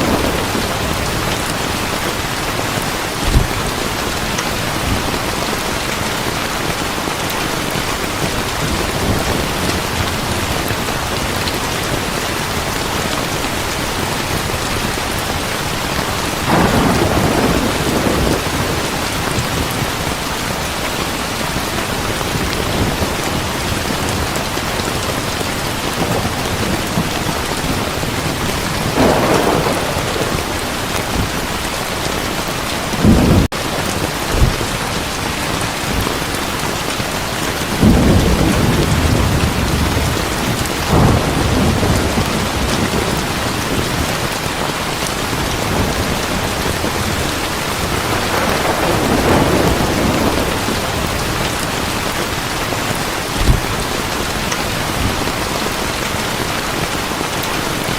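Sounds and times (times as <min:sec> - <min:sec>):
thunder rumbling: 0:00.0 - 0:36.2, 0:37.3 - 0:52.4
heavy rain: 0:00.0 - 0:57.9.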